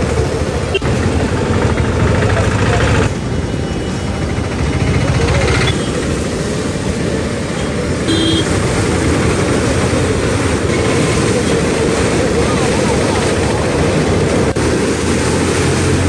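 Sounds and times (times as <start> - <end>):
floodwater rushing against bridge: 0.0 - 16.0.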